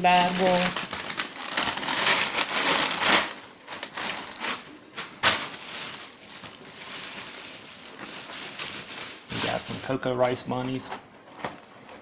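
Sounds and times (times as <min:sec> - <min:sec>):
bags rustling: 0:00.0 - 0:10.1.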